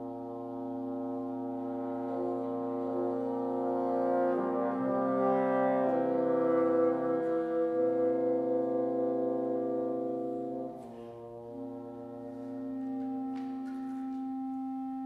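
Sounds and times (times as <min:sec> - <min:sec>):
woodwind and horn chords: 0:00.0 - 0:15.0.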